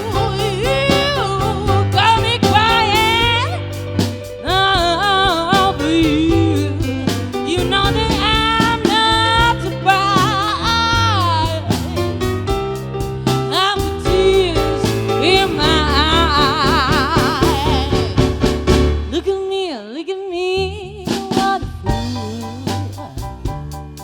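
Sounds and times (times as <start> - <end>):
sliding lead guitar melody: 0.0 - 19.3
bass line: 0.0 - 19.5, 20.6 - 24.0.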